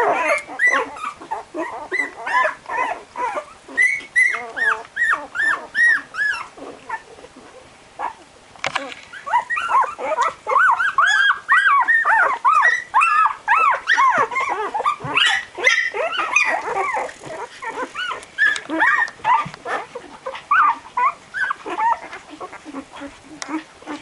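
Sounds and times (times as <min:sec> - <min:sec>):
puppies whining and squealing: 0:00.0 - 0:24.0.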